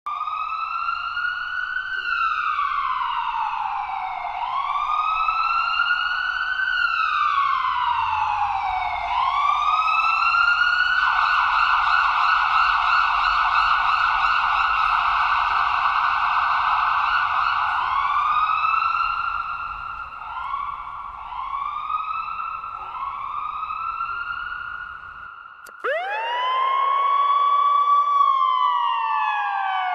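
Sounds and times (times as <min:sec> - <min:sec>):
ambulance siren: 0:00.1 - 0:29.9.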